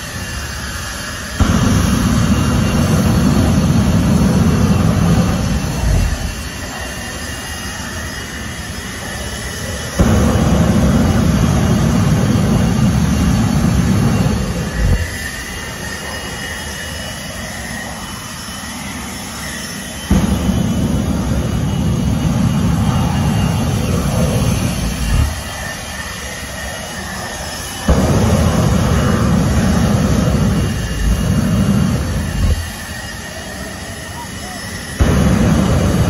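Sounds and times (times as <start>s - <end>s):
jet engine high whine: 0.0s - 36.0s
jet engine roaring: 0.0s - 36.0s.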